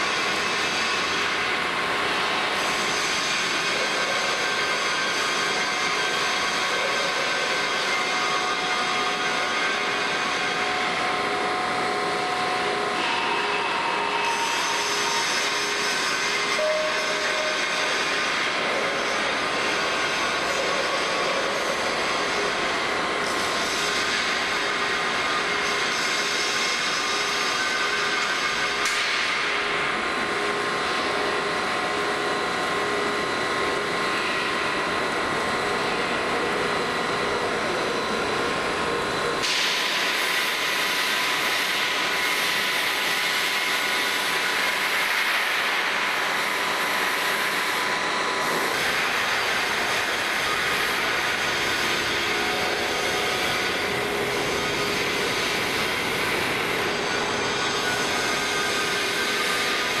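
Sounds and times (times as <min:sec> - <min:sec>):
faint machine whines: 0:00.0 - 1:00.0
heavy machinery running: 0:00.0 - 1:00.0.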